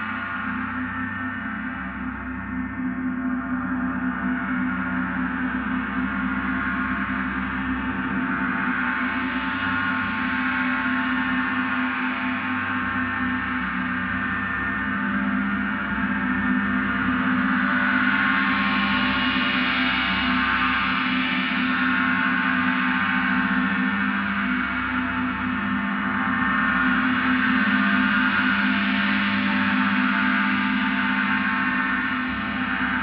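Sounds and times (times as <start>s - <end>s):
gong sustained tones: 0.0s - 33.0s.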